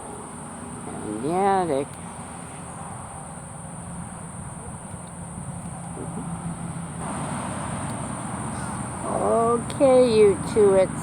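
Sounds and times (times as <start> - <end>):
distant traffic noise: 0.0 - 11.0
insects droning: 0.0 - 11.0.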